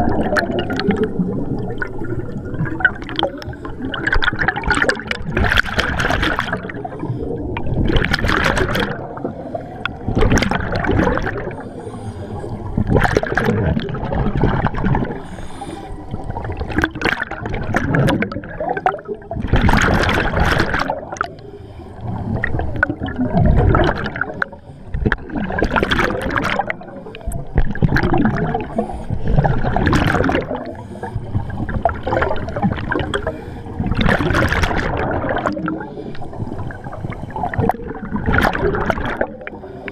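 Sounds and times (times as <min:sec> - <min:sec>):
air bubbles rushing underwater: 0:00.0 - 0:11.8, 0:12.5 - 0:39.9
underwater churn: 0:00.0 - 0:39.9.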